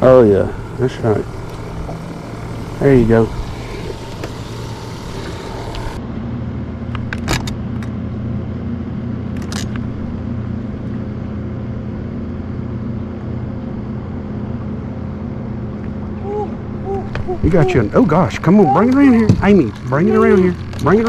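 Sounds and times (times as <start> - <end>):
motorboat engine drone: 0.0 - 21.0.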